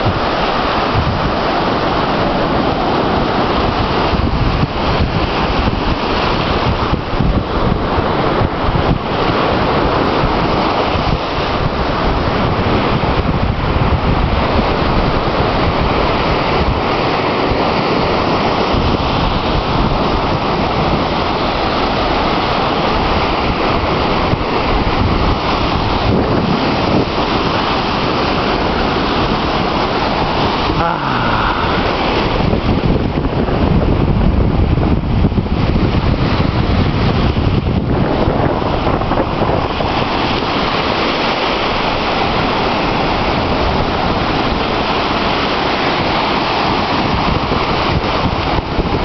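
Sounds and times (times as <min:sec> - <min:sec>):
ocean surf breaking: 0:00.0 - 0:49.0
wind buffeting microphone: 0:00.0 - 0:49.0.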